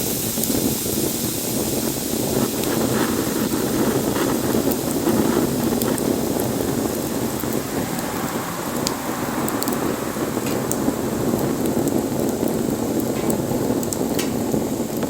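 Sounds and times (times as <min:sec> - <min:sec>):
flames rushing: 0:00.0 - 0:15.0
wood crackling and popping: 0:00.0 - 0:15.0.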